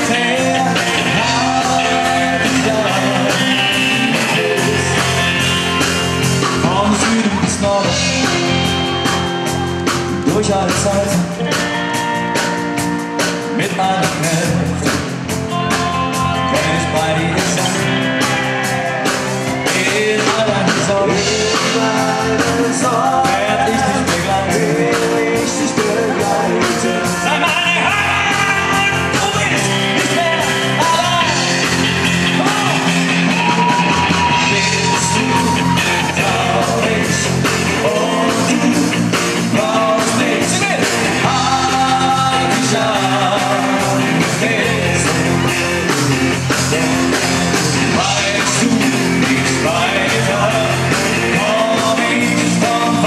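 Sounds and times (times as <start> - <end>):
man singing into a microphone: 0.0 - 5.7, 6.4 - 11.8, 13.4 - 15.0, 16.1 - 31.7, 32.3 - 53.0
live band playing: 0.0 - 53.0.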